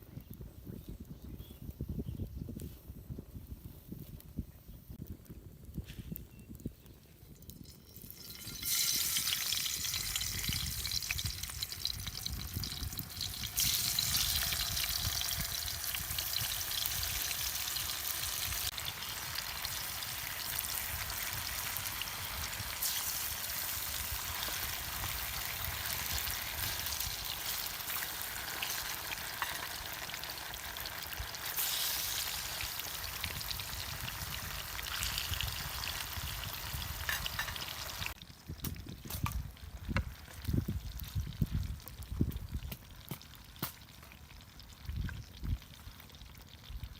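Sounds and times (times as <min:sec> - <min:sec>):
fish frying: 0:07.4 - 0:46.9.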